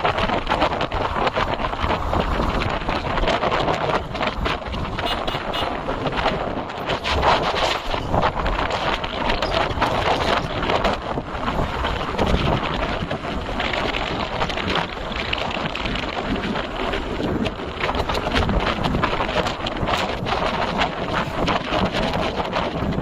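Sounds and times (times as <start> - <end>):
motorbike running noise: 0.0 - 23.0
wind buffeting microphone: 0.0 - 23.0.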